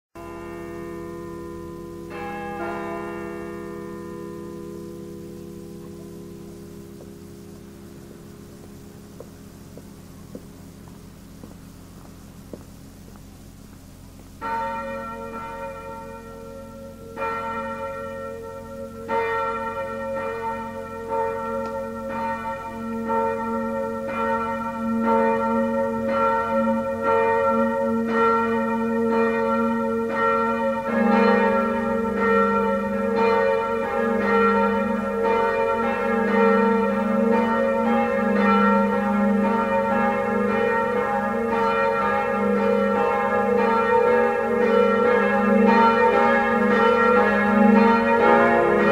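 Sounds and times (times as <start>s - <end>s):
deeper bell ringing: 0.2s - 10.5s, 14.4s - 48.9s
church bells pealing: 0.2s - 12.4s, 14.3s - 48.9s.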